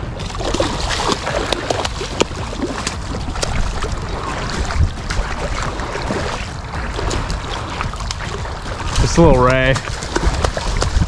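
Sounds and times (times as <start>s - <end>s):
wind rumble on microphone: 0.0s - 11.0s
fish thrashing and splashing: 0.1s - 11.0s.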